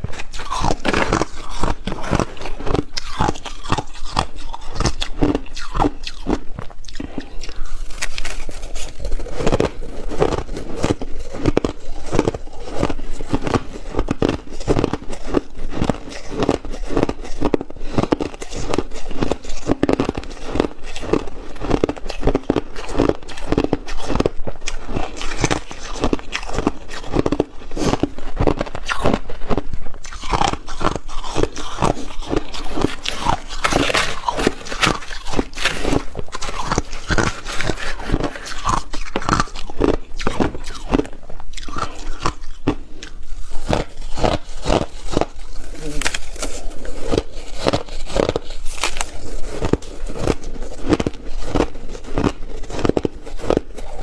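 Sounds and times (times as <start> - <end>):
person chewing ice: 0.0 - 54.0.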